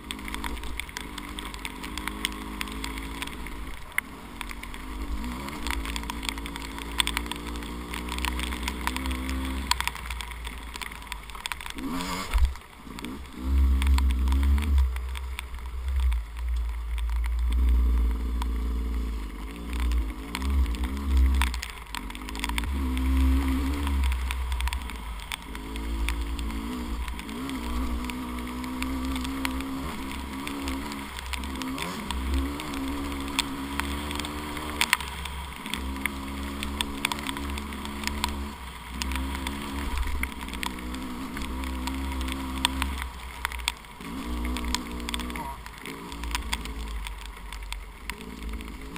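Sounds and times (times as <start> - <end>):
dirt bike engine revving: 0.0 - 16.1, 17.2 - 47.2, 48.0 - 48.9
scattered ticks: 0.0 - 48.9.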